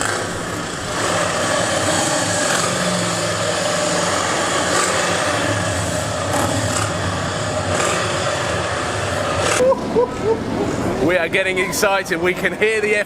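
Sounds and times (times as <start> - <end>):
motorcycle engines running: 0.0 - 11.4
outdoor noise: 0.0 - 13.0.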